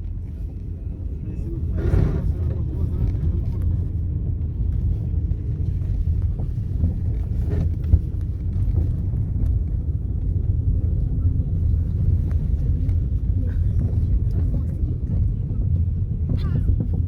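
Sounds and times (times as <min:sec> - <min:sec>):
car rumble: 0:00.0 - 0:17.0.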